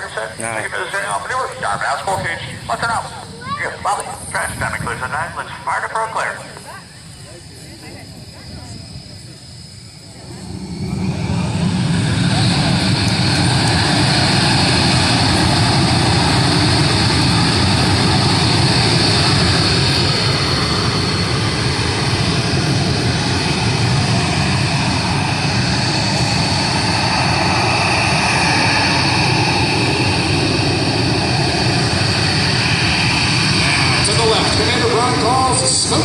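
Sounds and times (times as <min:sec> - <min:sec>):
jet engines running loud: 0:00.0 - 0:36.0.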